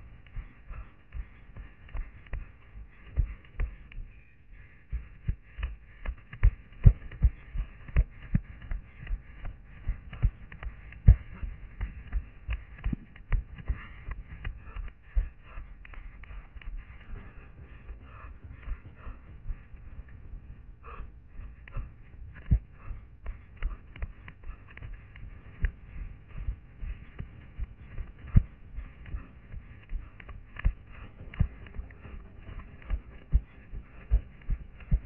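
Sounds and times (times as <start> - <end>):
running footsteps on forest floor: 0.0 - 35.0.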